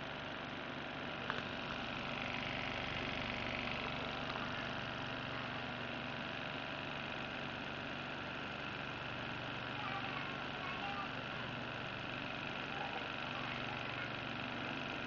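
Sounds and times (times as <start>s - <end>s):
motor whirring hum: 0.0s - 15.0s.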